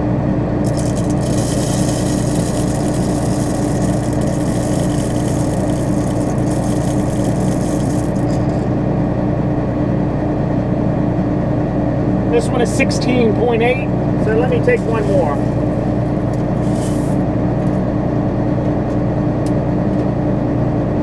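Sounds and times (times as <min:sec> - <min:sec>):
combine harvester engine droning: 0:00.0 - 0:21.0.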